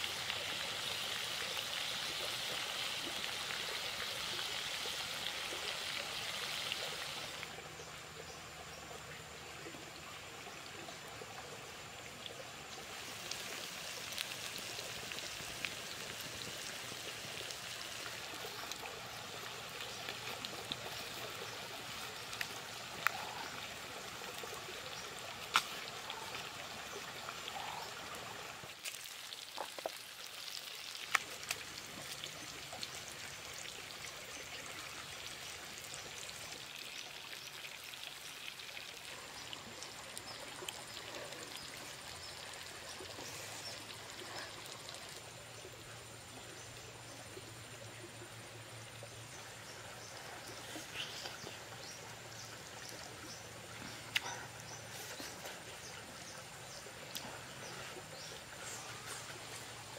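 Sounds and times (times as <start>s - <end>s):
stream trickling: 0.0s - 59.9s.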